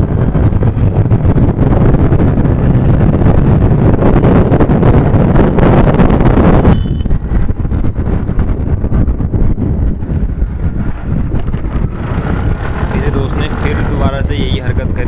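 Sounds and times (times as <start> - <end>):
scooter road noise: 0.0 - 15.0
wind rushing over microphone: 0.0 - 15.0.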